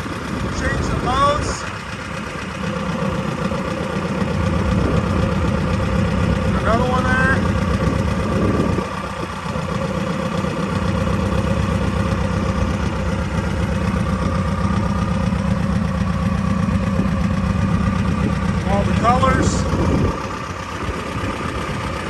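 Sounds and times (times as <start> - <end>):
buggy engine idling: 0.0 - 22.0.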